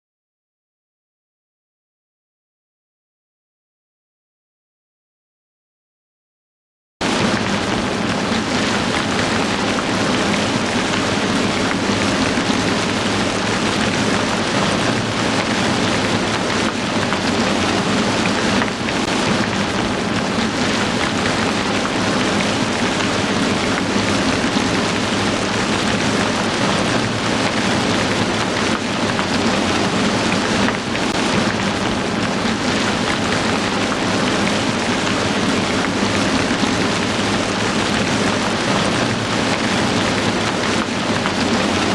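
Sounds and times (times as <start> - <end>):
heavy rain falling: 7.0 - 41.9.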